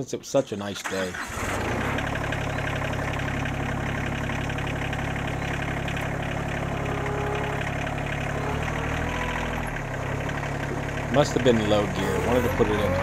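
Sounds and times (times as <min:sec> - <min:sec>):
tractor diesel engine running: 0:00.6 - 0:13.0.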